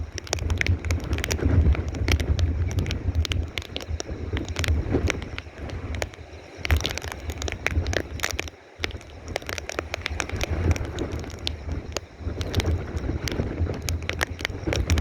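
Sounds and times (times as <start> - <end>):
sharp clicks and crackles: 0.0 - 15.0
strong gusting wind on microphone: 0.0 - 15.0.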